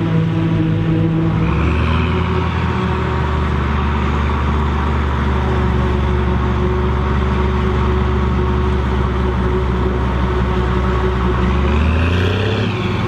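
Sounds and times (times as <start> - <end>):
tractor engine under load: 0.0 - 13.0.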